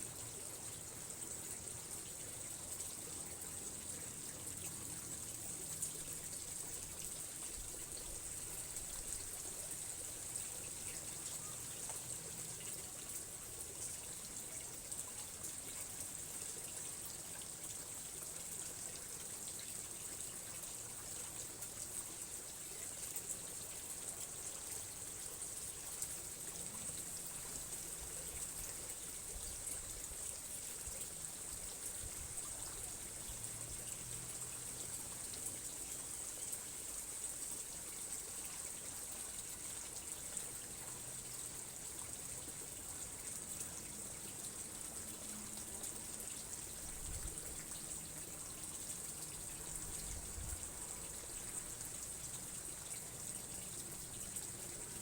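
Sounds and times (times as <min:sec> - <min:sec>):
trickle of running water: 0:00.0 - 0:55.0.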